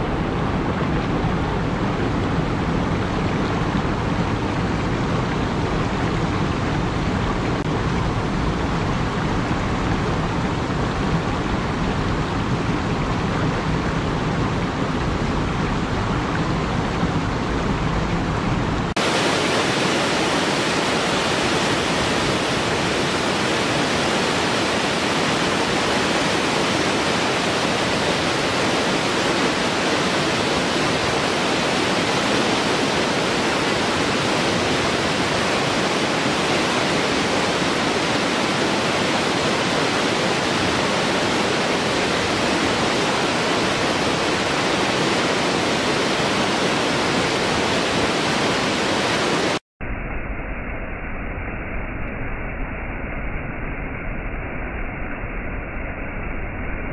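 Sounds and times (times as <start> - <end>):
waterfall rushing: 0.0 - 49.6.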